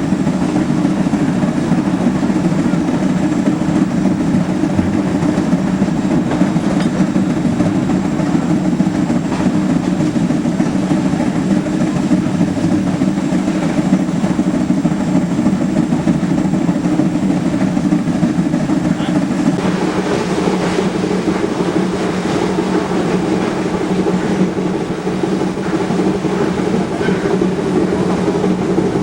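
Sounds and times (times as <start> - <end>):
steam locomotive running: 0.0 - 29.0.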